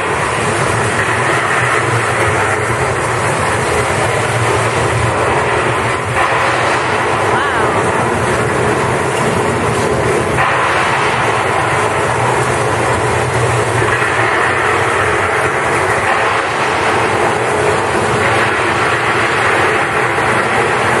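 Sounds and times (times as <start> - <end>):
low rumble: 0.0 - 21.0
rain shower rushing: 0.0 - 21.0.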